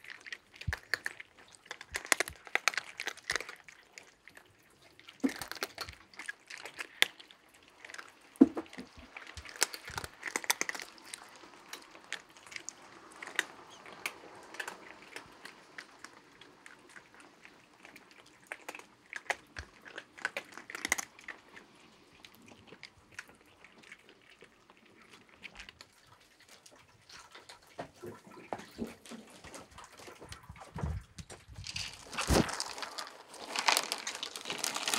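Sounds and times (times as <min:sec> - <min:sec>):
cats crunching dry kibble: 0:00.0 - 0:34.9.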